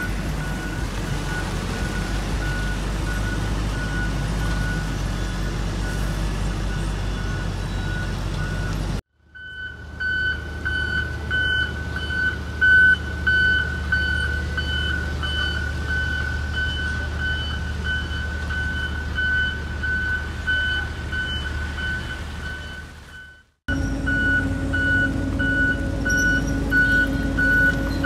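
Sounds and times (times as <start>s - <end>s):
diesel engine rumble: 0.0s - 28.0s
reversing alarm beeping: 0.0s - 28.0s.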